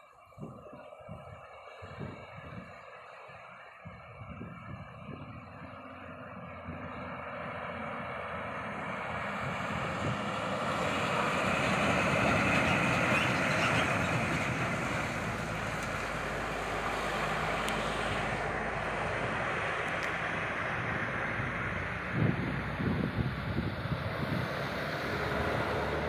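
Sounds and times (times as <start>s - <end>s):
road noise: 0.0s - 26.0s
heavy truck engine running: 3.3s - 26.0s.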